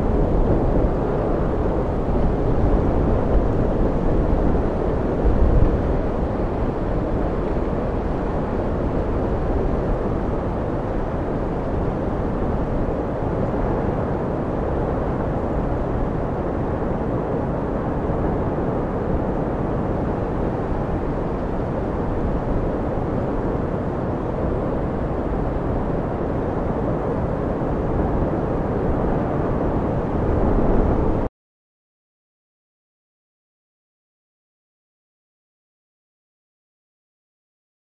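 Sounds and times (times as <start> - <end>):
strong wind on microphone: 0.0 - 31.3.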